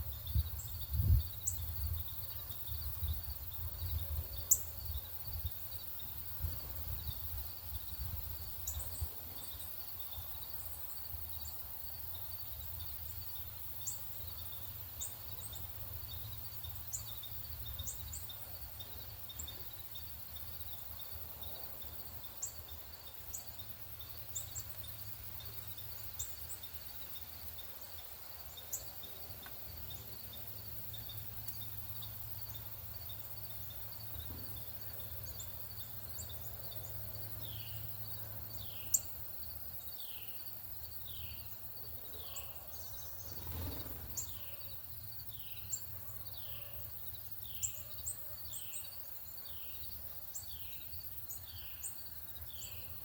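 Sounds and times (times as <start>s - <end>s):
rapid insect trill: 0.0s - 53.0s
songbirds chip notes: 0.0s - 53.0s.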